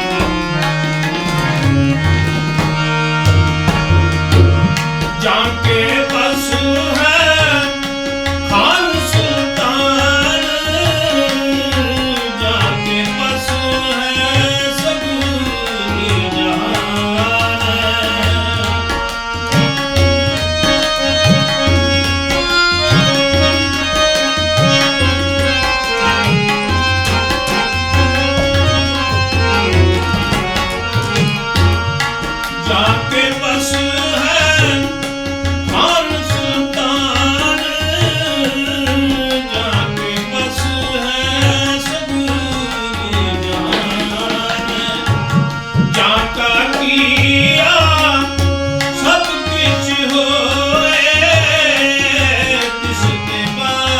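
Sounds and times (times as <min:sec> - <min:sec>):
harmonium chords: 0:00.0 - 0:53.9
tabla strokes: 0:00.0 - 0:53.9.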